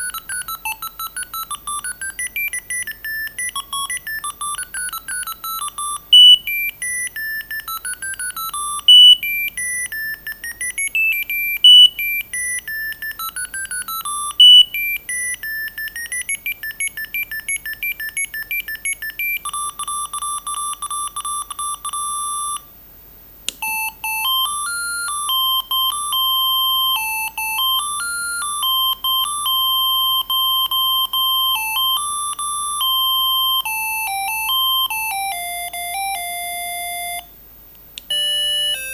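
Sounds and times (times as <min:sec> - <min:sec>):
mobile phone beeping ringtone: 0:00.0 - 0:22.7, 0:23.6 - 0:37.3, 0:38.1 - 0:38.9.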